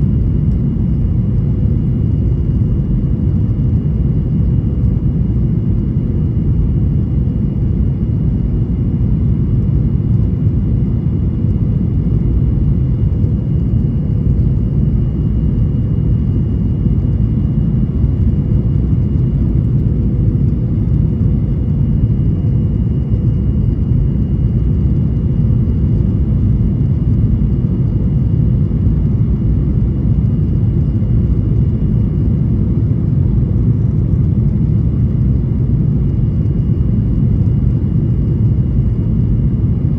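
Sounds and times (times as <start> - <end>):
airplane cabin engine rumble: 0.0 - 39.9
faint steady whine: 0.0 - 39.9.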